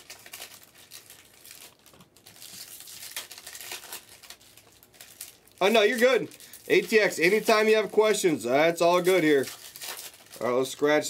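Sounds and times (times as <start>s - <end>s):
foil wrappers crinkling: 0.0s - 11.0s.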